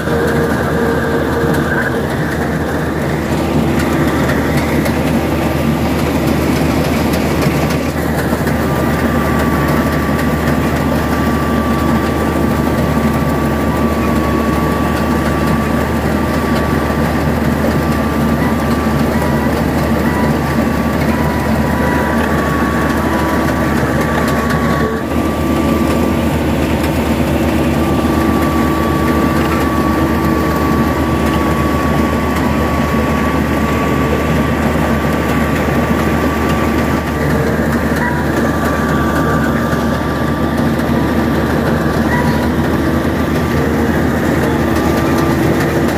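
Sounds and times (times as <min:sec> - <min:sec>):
harvester engine drone: 0:00.0 - 0:45.9
high-pitched machine whine: 0:00.0 - 0:45.9.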